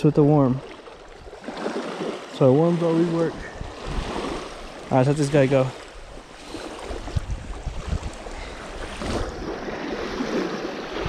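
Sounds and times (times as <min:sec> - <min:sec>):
small waves lapping on shore: 0:00.0 - 0:11.0
wind buffeting microphone: 0:00.1 - 0:11.0.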